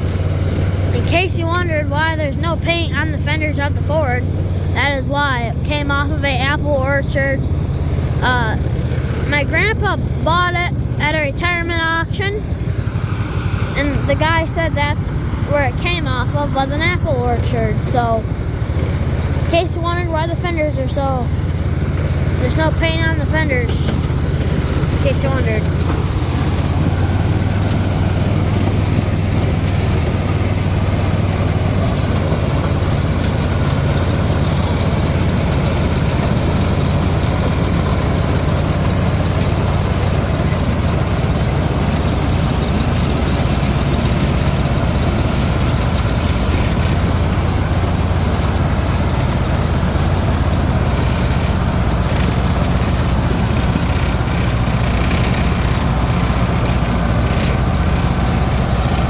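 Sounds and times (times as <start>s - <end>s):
tractor engine humming: 0.0s - 59.0s.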